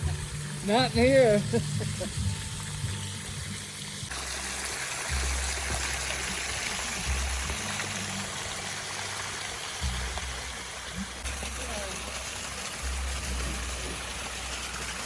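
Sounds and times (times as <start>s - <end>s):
waterfall splashing over rocks: 0.0s - 15.0s.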